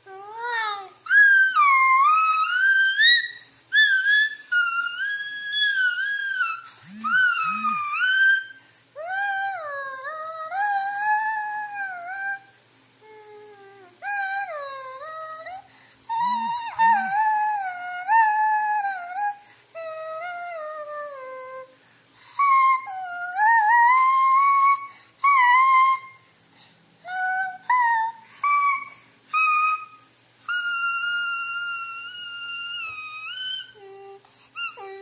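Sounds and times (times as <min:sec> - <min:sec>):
high-pitched whining cries: 0:00.1 - 0:21.7, 0:27.0 - 0:35.0.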